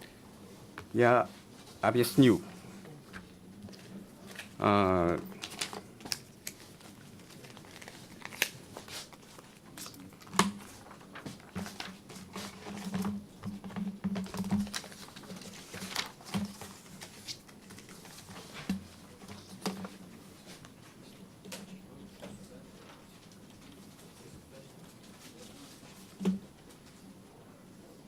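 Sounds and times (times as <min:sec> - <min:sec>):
rustling and handling noises: 0:00.4 - 0:27.2.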